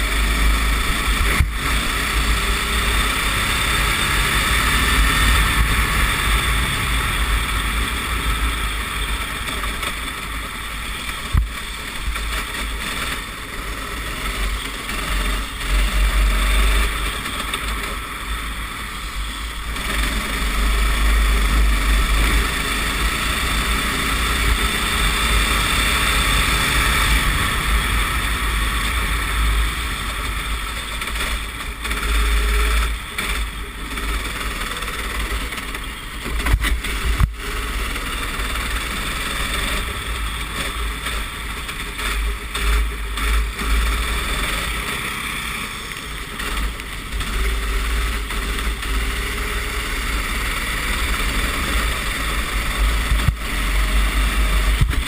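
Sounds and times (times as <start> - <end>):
racing kart engine: 0.0 - 55.0.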